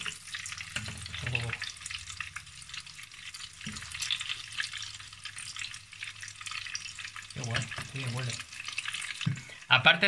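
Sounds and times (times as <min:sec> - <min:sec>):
batter sizzling in hot oil: 0:00.0 - 0:10.0.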